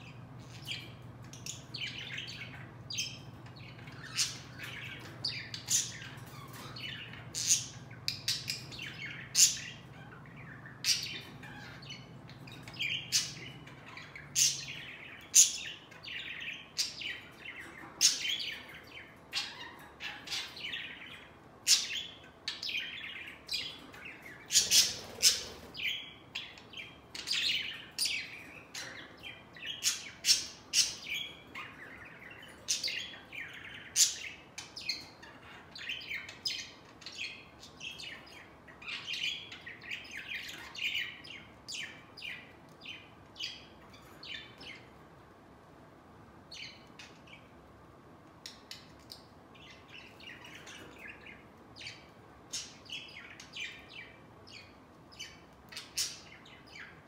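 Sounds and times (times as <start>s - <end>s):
budgerigars chirping and squawking: 0.0s - 45.0s, 48.2s - 57.0s.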